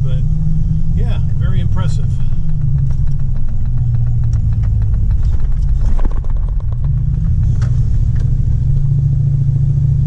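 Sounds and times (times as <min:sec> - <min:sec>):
pickup truck engine driving: 0:00.0 - 0:10.0.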